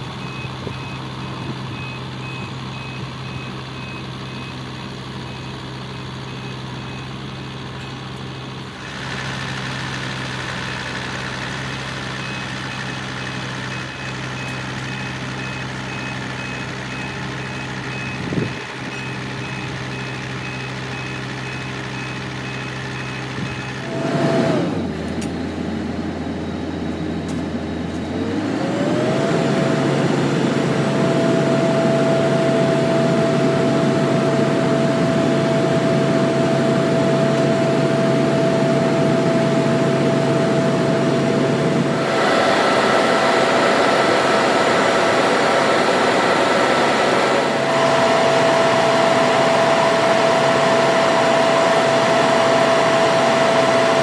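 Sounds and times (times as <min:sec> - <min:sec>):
truck engine whining: 0:00.0 - 0:54.0.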